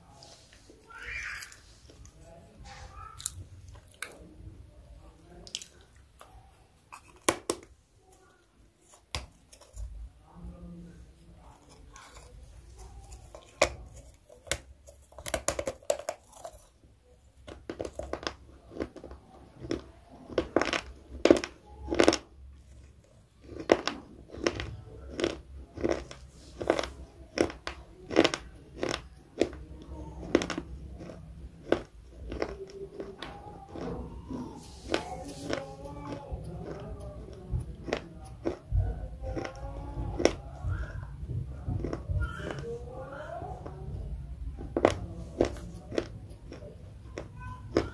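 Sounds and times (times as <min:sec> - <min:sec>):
chewing crisp food: 0:01.3 - 0:04.4, 0:05.2 - 0:47.9.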